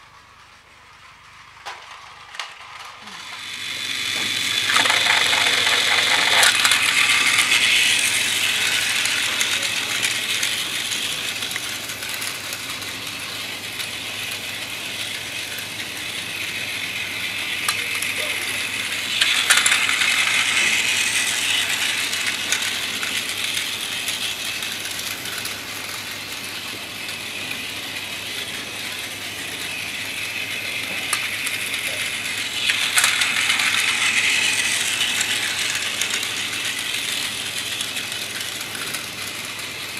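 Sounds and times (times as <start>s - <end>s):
toy train motor whirring: 0.0s - 39.9s
toy wheels clattering on track: 0.0s - 39.9s.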